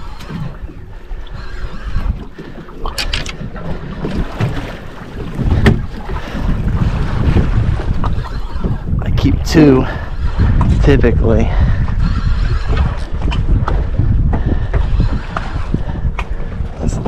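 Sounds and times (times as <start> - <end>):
water sloshing against hull: 0.0 - 17.0
wind buffeting microphone: 0.0 - 17.0.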